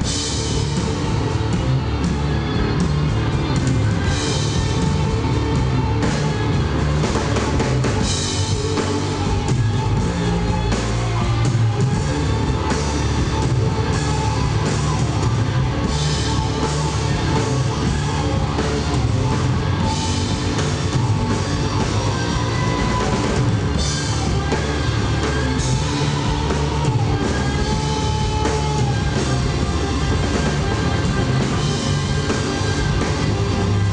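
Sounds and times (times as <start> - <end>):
live instrumental rock band: 0.0 - 33.9.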